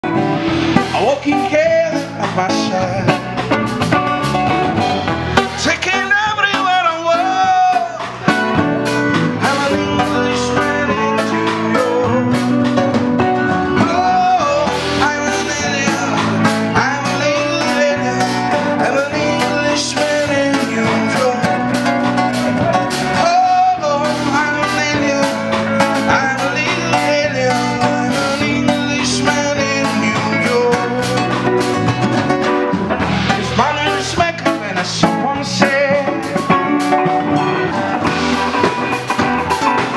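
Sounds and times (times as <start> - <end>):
bass guitar: 0.0 - 39.9
electric guitars: 0.0 - 39.9
man singing into microphone: 0.8 - 3.6, 5.4 - 32.0, 33.2 - 37.9.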